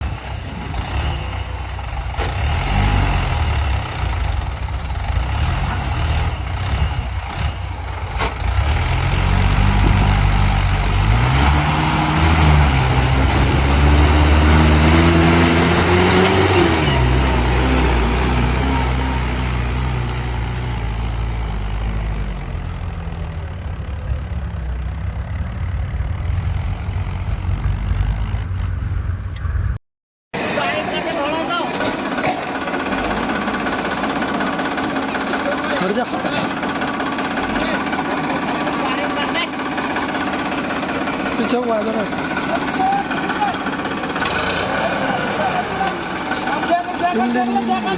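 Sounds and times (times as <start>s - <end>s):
heavy diesel engine revving: 0.0s - 29.8s, 32.0s - 47.9s.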